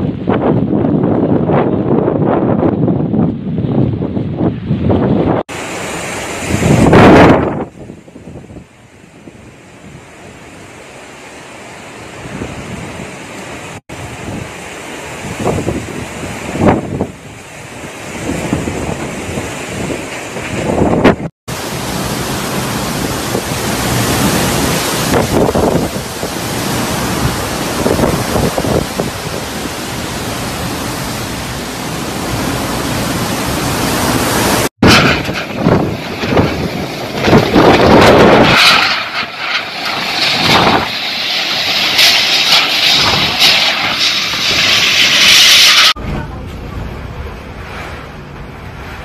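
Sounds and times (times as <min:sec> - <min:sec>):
wind buffeting microphone: 0:00.0 - 0:10.7, 0:12.1 - 0:49.0
strong wind and heavy rain: 0:00.0 - 0:49.0.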